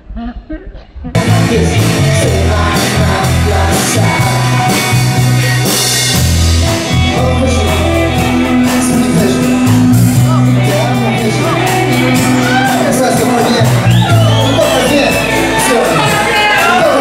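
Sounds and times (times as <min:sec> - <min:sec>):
live rock band playing: 0:01.1 - 0:17.0.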